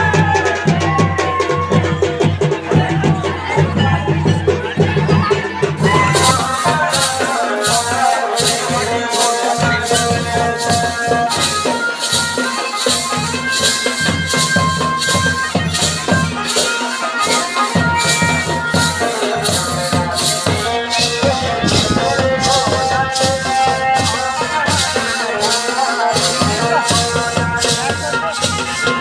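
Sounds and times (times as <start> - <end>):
jingling rattling percussion: 0.0 - 29.0.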